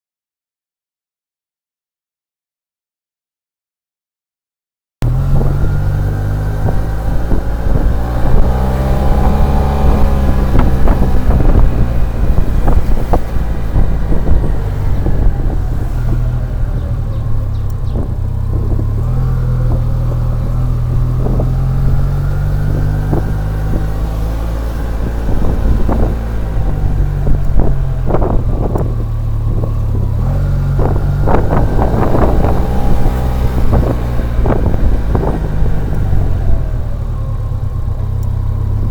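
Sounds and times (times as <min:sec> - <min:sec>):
scooter engine revving: 0:05.0 - 0:38.9
wind buffeting microphone: 0:05.0 - 0:38.9.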